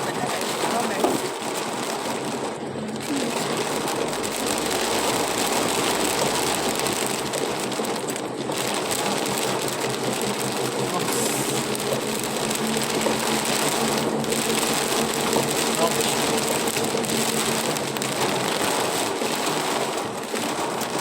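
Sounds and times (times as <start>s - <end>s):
rain hissing on car body: 0.0s - 21.0s
tyres on wet road: 0.0s - 21.0s.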